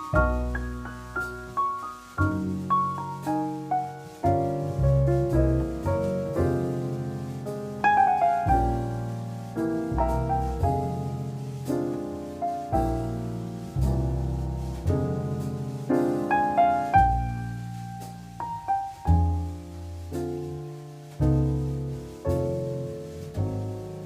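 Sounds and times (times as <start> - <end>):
deep piano bass notes: 0.0 - 24.0
jazz piano ballad chords: 0.0 - 24.0.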